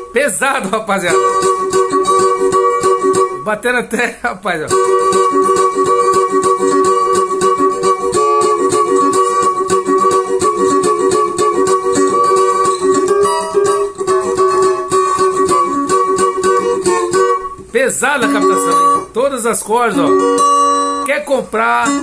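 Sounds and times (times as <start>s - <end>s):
amplified cavaquinho strummed fast: 0.0s - 22.0s.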